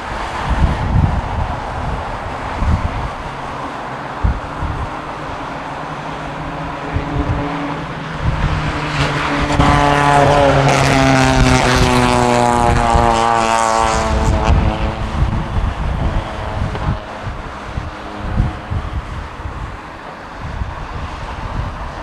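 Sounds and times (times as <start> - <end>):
jet engines whining past: 0.0 - 22.0
wind buffeting microphone: 0.0 - 22.0.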